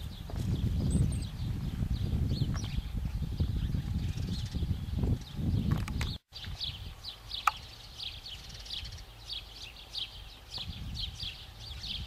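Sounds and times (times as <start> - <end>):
low rumble on microphone: 0.0 - 9.3, 10.1 - 12.0
birds chirping: 0.0 - 12.0.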